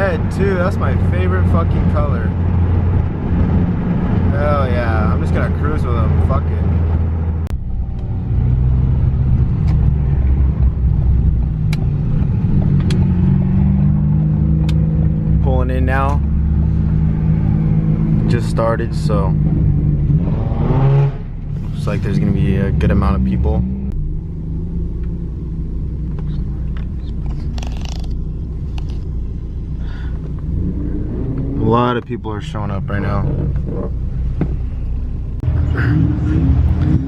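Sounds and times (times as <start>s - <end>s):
car engine drone in cabin: 0.0s - 37.0s.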